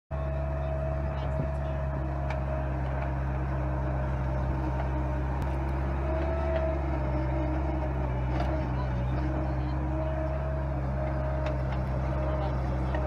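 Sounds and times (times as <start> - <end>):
skid steer engine running: 0.1 - 13.0.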